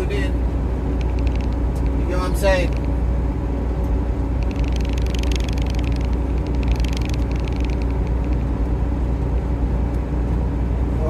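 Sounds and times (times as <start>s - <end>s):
truck engine and road drone: 0.0s - 11.0s.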